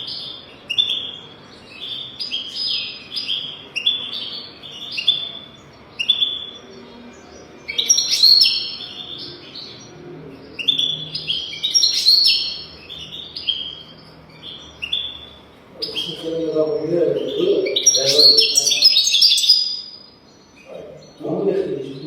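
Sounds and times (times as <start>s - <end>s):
goldfinch twittering song: 0.0s - 22.0s.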